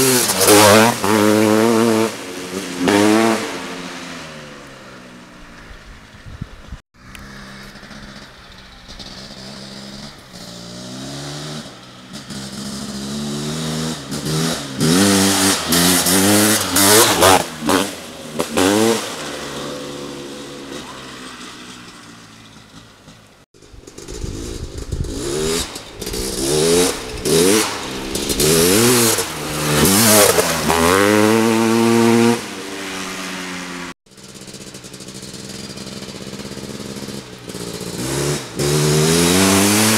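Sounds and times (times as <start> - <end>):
two-stroke engine revving hard: 0.0 - 5.5, 7.0 - 39.9.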